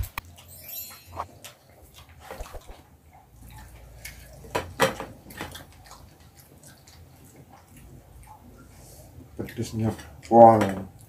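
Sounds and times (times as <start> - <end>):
wet smacking eating sounds: 1.2 - 11.0.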